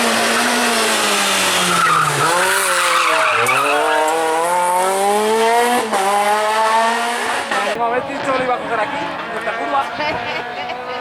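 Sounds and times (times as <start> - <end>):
rally car engine revving: 0.0 - 11.0
tyres skidding: 0.0 - 11.0.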